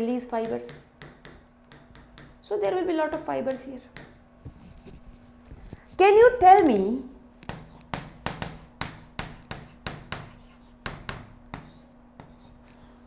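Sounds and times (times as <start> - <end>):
faint steady hum: 0.0 - 13.0
chalk tapping on blackboard: 0.4 - 2.4, 3.5 - 12.8.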